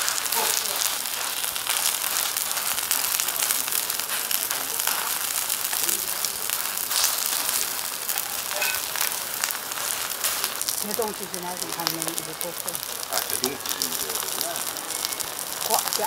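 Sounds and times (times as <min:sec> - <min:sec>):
batter sizzling in oil: 0:00.0 - 0:16.0.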